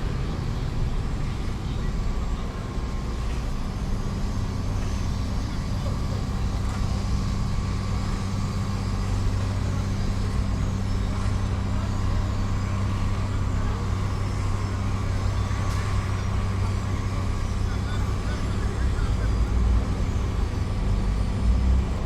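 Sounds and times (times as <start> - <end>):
heavy engine humming: 0.0 - 22.0.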